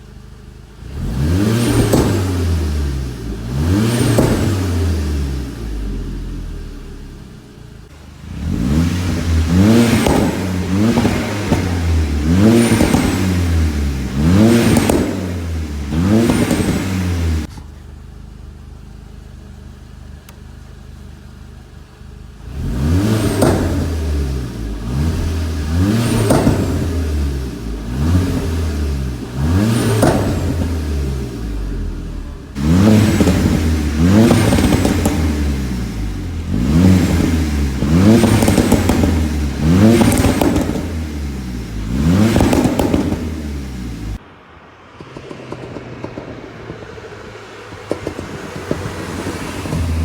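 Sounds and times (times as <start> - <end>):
car engine revving: 0.0 - 17.8, 18.7 - 44.2, 45.0 - 50.0
exhaust pops and crackles: 1.0 - 7.2, 8.4 - 18.1, 22.5 - 44.2, 45.0 - 50.0.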